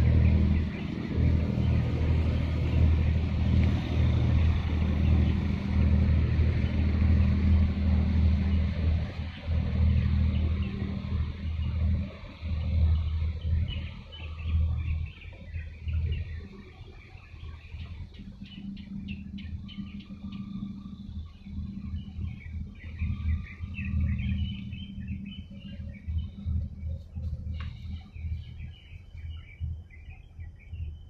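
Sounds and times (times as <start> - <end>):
birds chirping: 0.0 - 31.0
engine running: 0.0 - 31.0.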